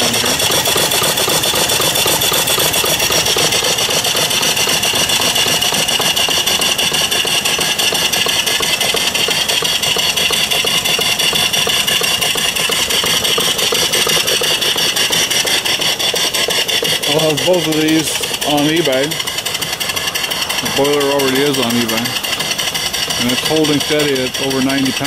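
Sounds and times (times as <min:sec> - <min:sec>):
steam engine exhaust chuffs: 0:00.0 - 0:25.0.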